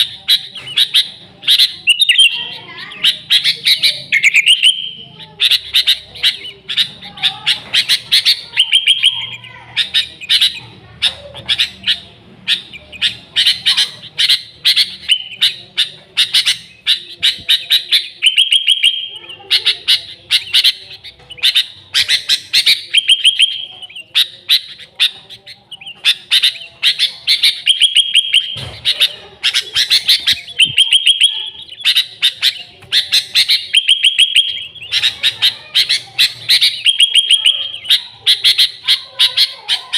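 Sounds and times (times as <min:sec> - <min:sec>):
bulbul singing chirpy notes: 0:00.0 - 0:39.9.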